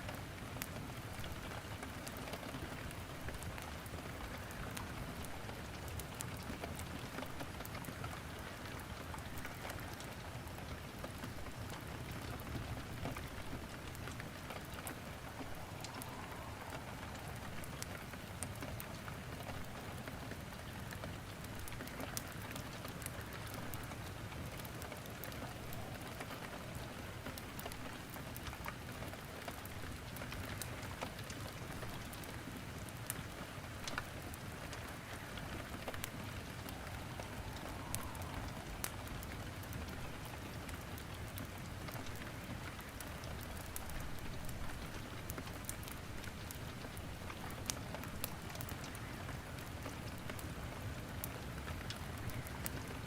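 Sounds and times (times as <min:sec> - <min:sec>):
firewood crackling in fireplace: 0:00.0 - 0:53.0
steady rain falling: 0:00.0 - 0:53.0.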